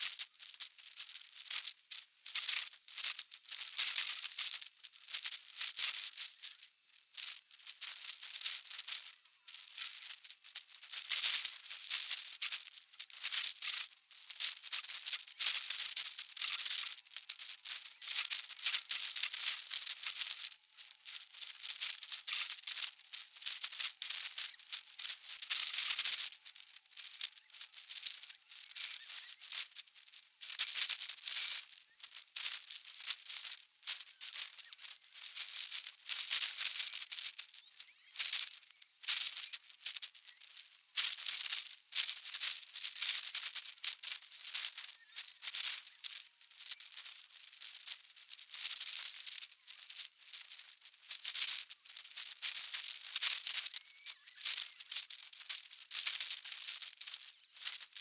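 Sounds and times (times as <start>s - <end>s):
high crackling hiss: 0.0s - 58.0s.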